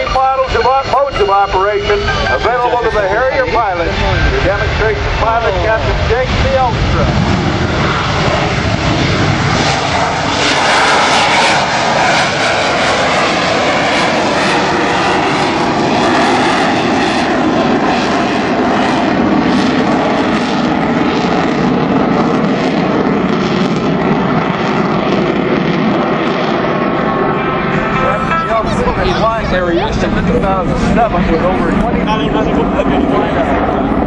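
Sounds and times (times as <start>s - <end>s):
loud jet roar: 0.0s - 34.0s.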